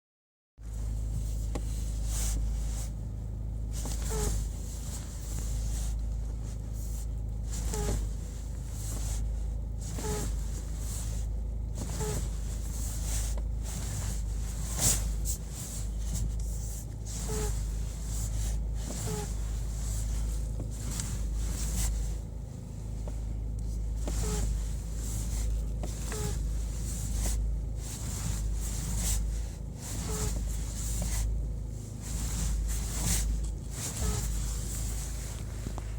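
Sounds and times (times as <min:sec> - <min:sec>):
car idling hum: 0:00.6 - 0:35.9
steering pitched noise: 0:00.6 - 0:35.9.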